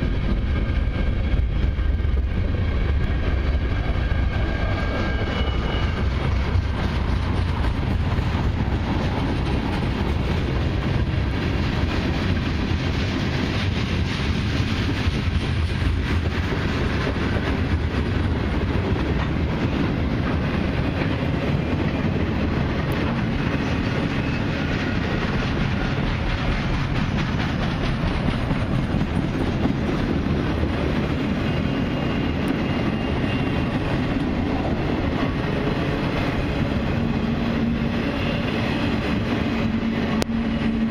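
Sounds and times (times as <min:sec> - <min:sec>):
freight train rolling past: 0:00.0 - 0:40.9
steel wheels clattering over rail joints: 0:00.0 - 0:40.9.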